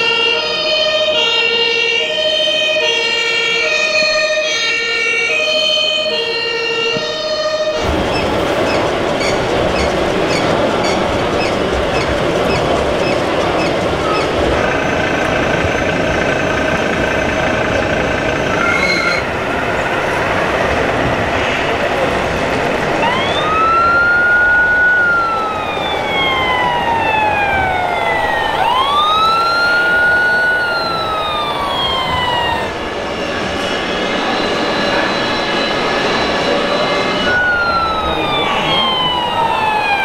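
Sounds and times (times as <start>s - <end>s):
toy vehicle siren wailing: 0.0s - 10.3s, 11.2s - 19.3s, 22.3s - 40.0s
noisy background din: 3.6s - 40.0s.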